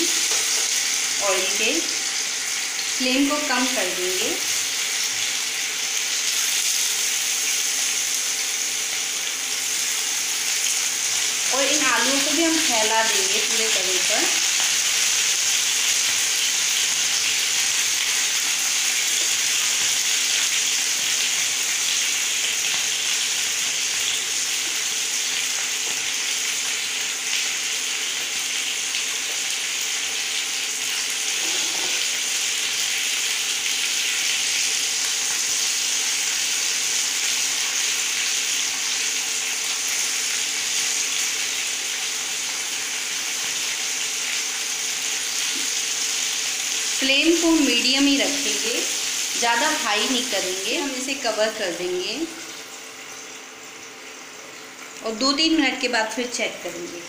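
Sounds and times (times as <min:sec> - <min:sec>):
potatoes sizzling in hot oil: 0:00.0 - 0:57.0.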